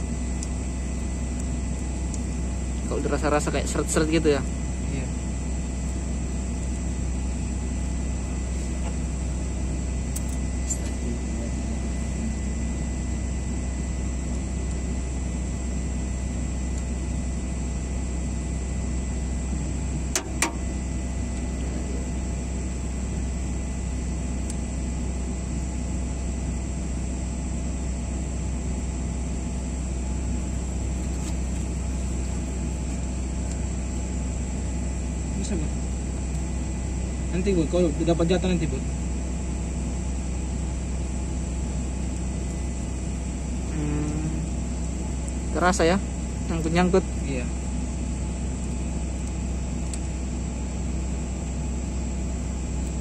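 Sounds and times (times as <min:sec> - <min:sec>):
low machine drone: 0:00.0 - 0:53.0.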